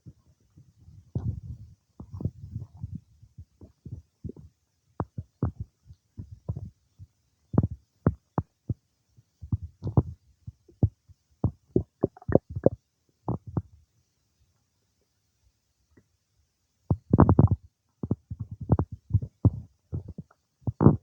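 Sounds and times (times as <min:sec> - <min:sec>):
stomach gurgling: 0:00.0 - 0:08.8, 0:09.4 - 0:13.8, 0:16.9 - 0:21.0.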